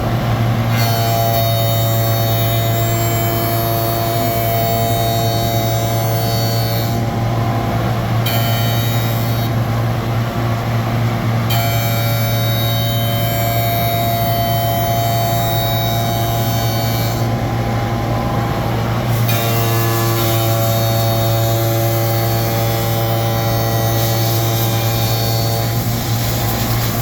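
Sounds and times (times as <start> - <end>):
cnc router humming: 0.0 - 27.0.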